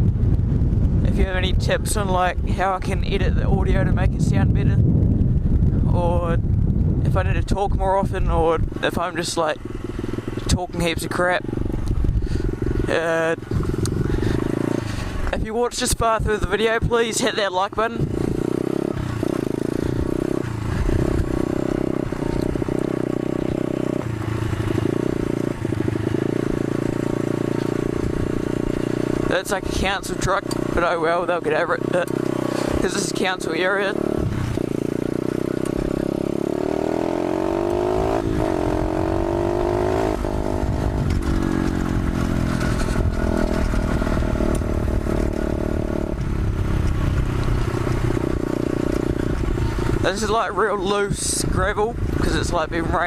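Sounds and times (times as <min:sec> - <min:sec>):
pit bike engine under throttle: 0:00.0 - 0:53.0.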